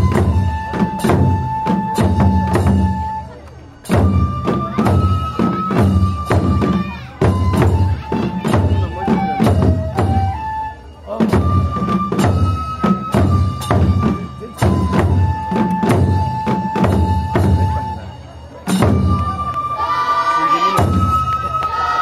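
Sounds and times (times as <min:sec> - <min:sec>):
bamboo flutes melody: 0:00.0 - 0:22.0
taiko drums beating: 0:00.0 - 0:22.0.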